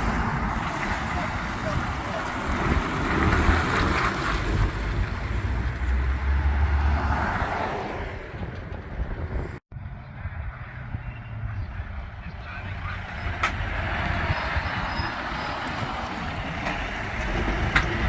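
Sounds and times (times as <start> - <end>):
truck engines rumbling: 0.0 - 18.0
wind noise on microphone: 0.0 - 18.0.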